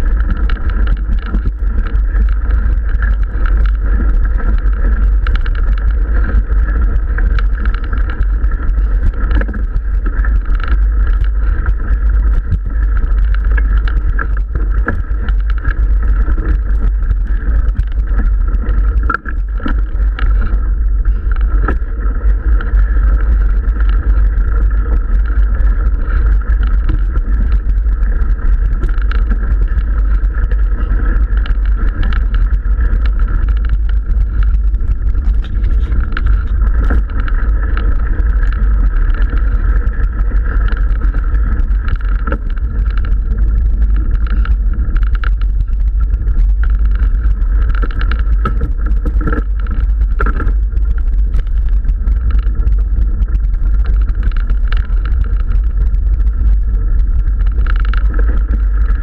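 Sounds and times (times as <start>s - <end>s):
tyres clicking on gravel: 0.0s - 59.0s
wind and vibration rumble: 0.0s - 59.0s.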